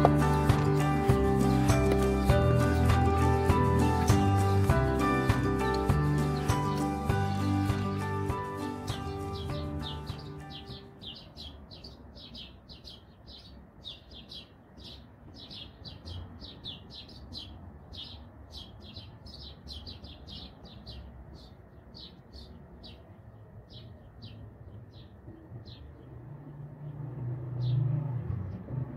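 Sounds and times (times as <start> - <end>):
small birds chirping: 0.0 - 28.7.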